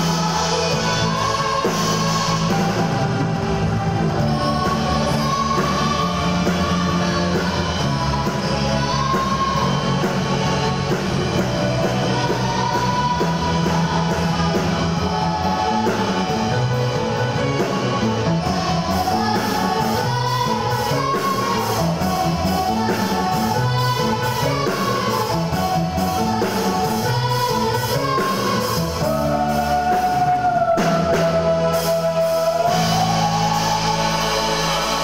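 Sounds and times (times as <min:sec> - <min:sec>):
shrill female lead vocal: 0:00.0 - 0:03.0, 0:03.6 - 0:17.0, 0:18.0 - 0:35.0
guitar: 0:00.0 - 0:35.0
keyboard: 0:00.0 - 0:35.0.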